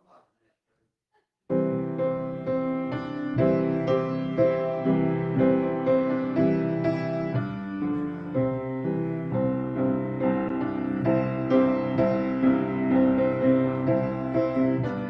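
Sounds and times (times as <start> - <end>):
slow piano music: 1.5 - 15.0.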